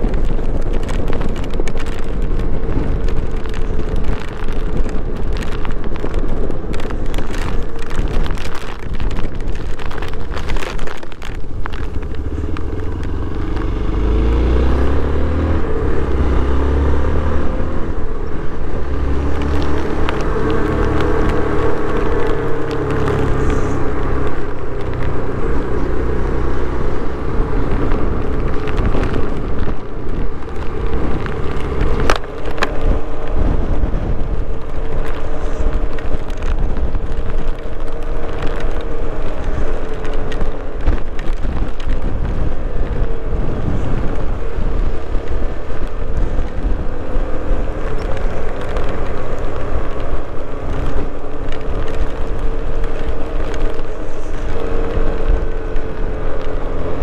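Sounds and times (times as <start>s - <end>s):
wind buffeting the microphone: 0.0s - 57.0s.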